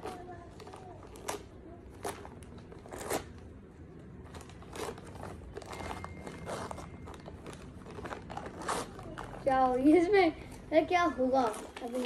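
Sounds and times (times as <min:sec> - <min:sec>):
gift wrapping tearing and crumpling: 0:00.0 - 0:09.8, 0:11.4 - 0:12.0.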